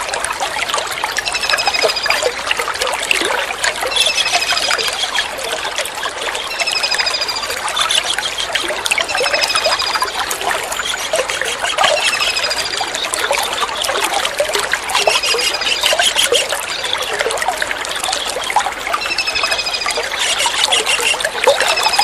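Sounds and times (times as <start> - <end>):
water drips: 0.0 - 22.0
water trickling and splashing: 0.0 - 22.0.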